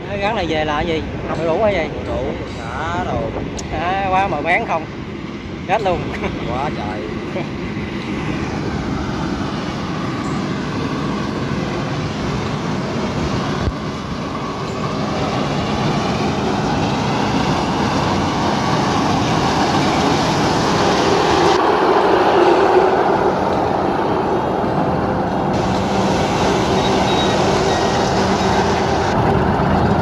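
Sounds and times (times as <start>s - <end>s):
combine harvester droning: 4.4s - 30.0s.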